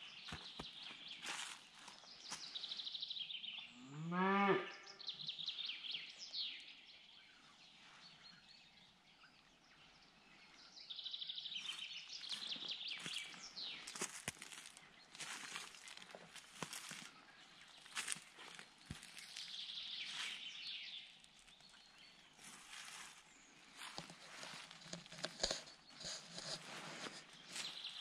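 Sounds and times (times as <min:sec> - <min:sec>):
songbirds trilling: 0:00.0 - 0:04.0, 0:04.7 - 0:28.0.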